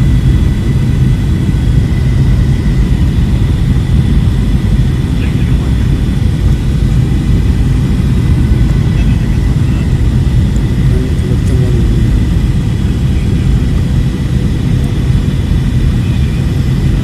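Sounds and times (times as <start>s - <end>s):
airliner low rumble: 0.0s - 17.0s
faint steady whine: 0.0s - 17.0s.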